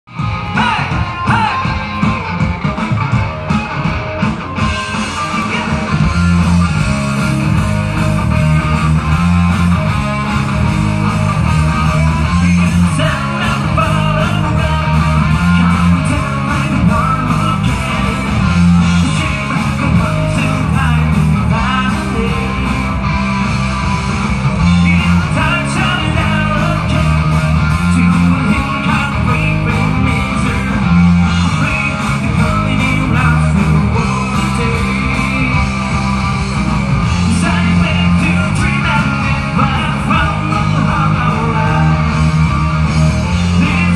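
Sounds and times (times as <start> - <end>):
live rock band playing: 0.1 - 43.9
repeating bass line: 0.1 - 43.9.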